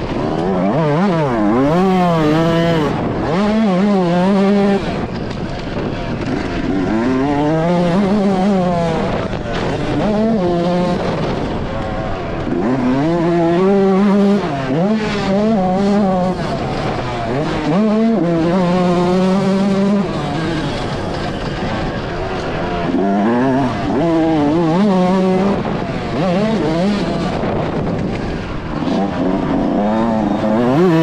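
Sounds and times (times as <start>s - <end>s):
motocross engine revving: 0.0s - 31.0s.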